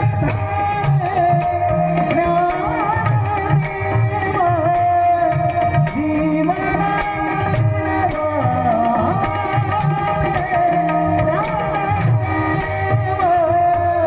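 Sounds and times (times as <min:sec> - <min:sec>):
person singing devotional song: 0:00.0 - 0:14.0
sharp percussion strikes: 0:00.0 - 0:14.0
tabla: 0:00.0 - 0:14.0.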